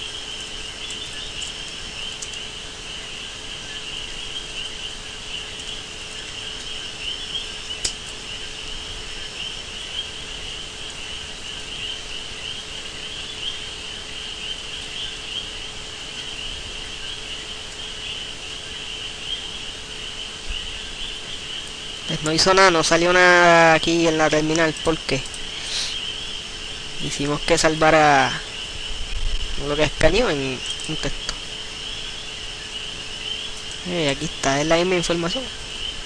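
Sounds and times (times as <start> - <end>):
crickets chirping: 0.0 - 36.0
faint steady hum: 0.0 - 36.0.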